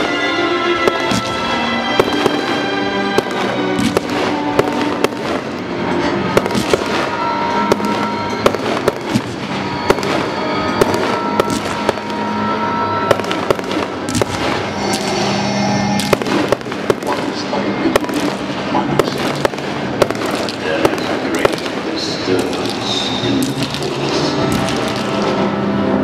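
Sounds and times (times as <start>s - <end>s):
fireworks bursting and crackling: 0.0s - 26.0s
music: 0.0s - 26.0s.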